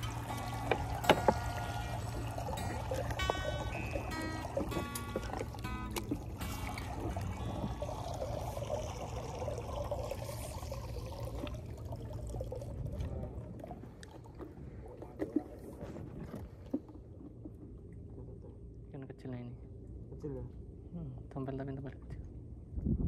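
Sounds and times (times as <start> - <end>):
water lapping around a rowboat: 0.0 - 18.8.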